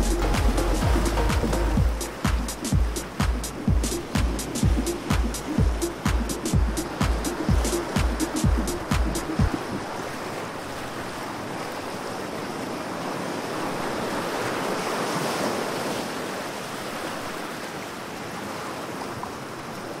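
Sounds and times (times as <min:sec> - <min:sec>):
underwater rushing water: 0:00.0 - 0:20.0.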